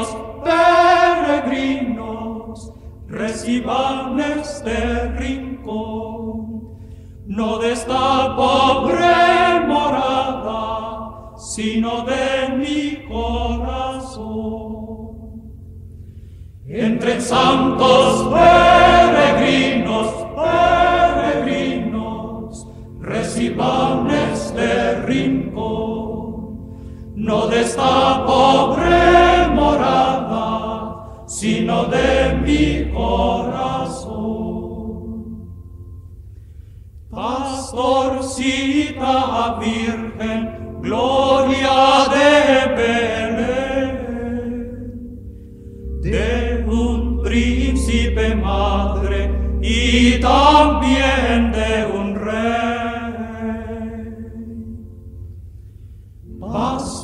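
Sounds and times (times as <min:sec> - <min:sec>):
choir singing: 0:00.0 - 0:15.4, 0:16.6 - 0:35.6, 0:37.1 - 0:45.2, 0:45.8 - 0:55.0, 0:56.2 - 0:57.0.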